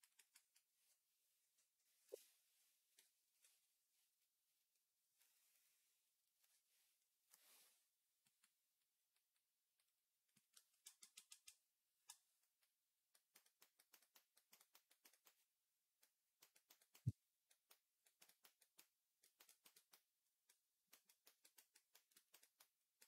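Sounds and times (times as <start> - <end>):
faint irregular clicks and taps: 0.0 - 3.7, 6.4 - 23.0.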